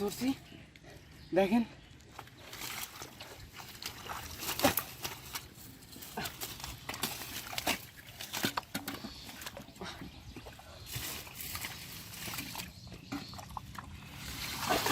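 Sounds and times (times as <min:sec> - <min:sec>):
splashing in shallow water: 0:02.1 - 0:14.9.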